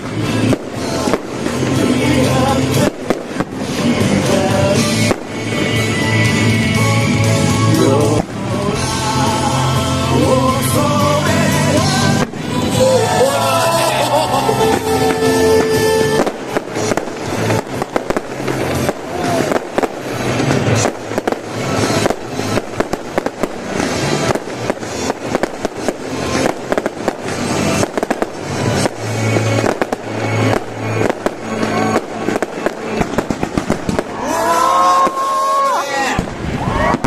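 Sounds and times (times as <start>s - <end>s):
fireworks bursting and crackling: 0.0s - 37.0s
music playing: 0.0s - 37.0s.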